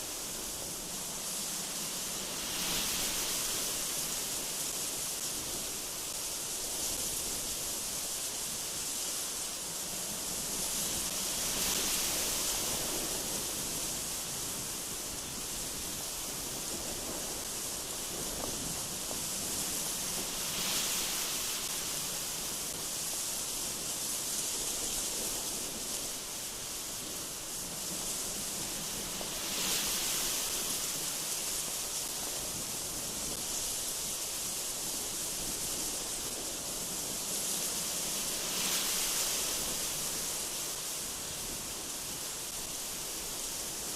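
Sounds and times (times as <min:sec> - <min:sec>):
gusty wind through trees: 0:00.0 - 0:43.9.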